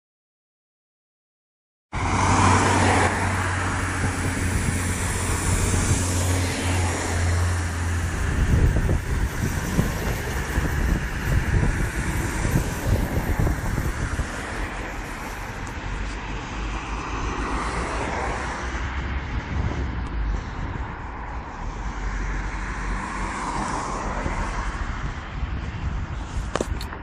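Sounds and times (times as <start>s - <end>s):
wind gusting over microphone: 2.0s - 27.0s.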